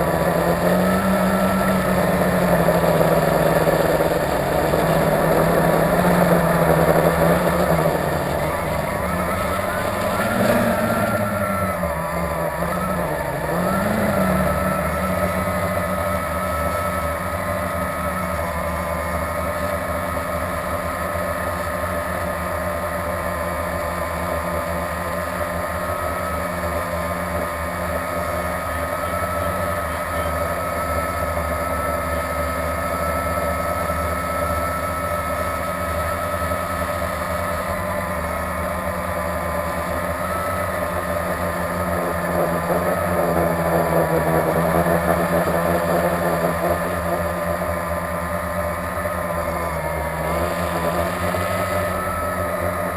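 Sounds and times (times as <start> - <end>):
quadcopter motors whining: 0.0 - 52.9.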